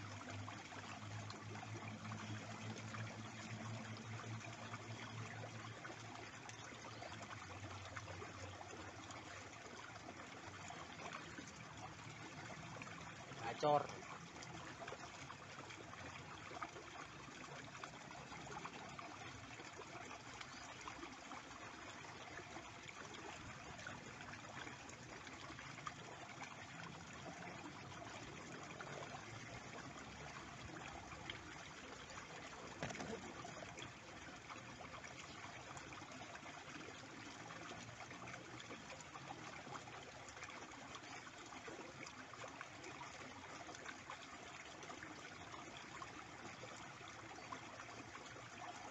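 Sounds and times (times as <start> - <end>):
stream trickling: 0.0 - 48.9.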